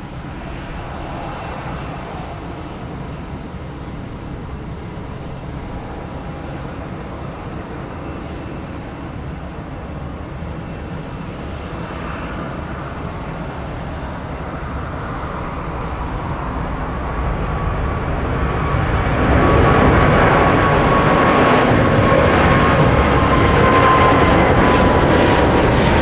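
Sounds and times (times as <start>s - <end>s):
faint jet whine: 0.0s - 26.0s
jet engines rumbling at takeoff: 0.0s - 26.0s.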